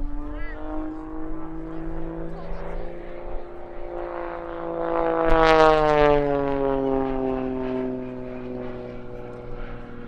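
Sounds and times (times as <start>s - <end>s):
propeller plane flying past: 0.0s - 10.0s.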